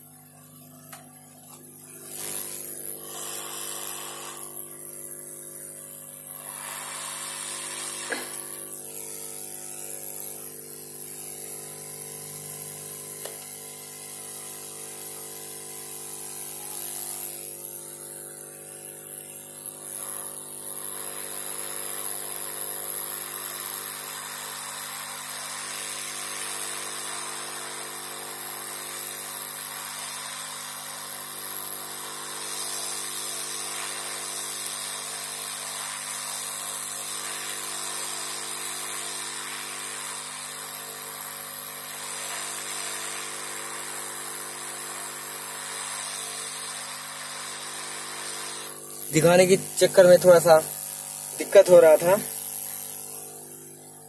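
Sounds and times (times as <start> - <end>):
hot-air gun hissing: 0.0 - 54.0.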